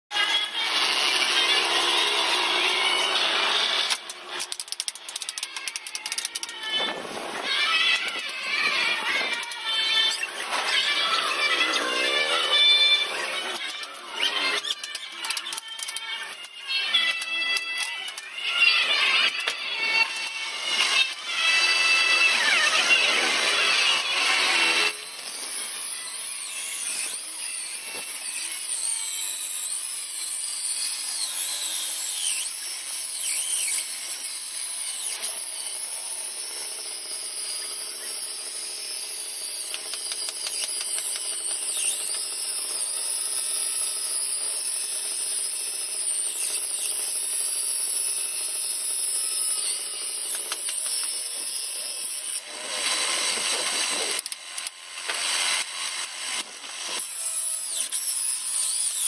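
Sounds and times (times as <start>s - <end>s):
table saw cutting wood: 0.1s - 59.0s.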